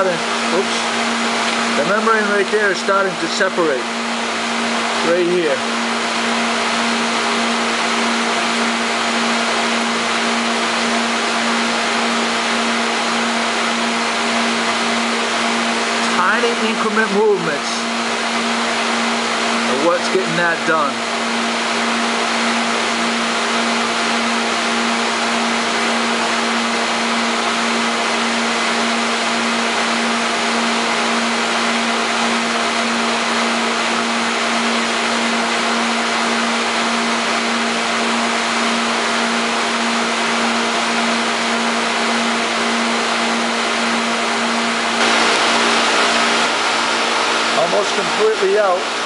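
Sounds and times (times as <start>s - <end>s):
machine hum: 0.0s - 49.0s.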